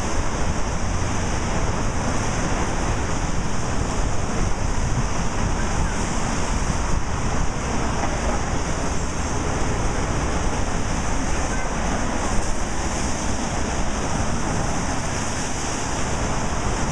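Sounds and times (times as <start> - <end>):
passing traffic: 0.0 - 16.9.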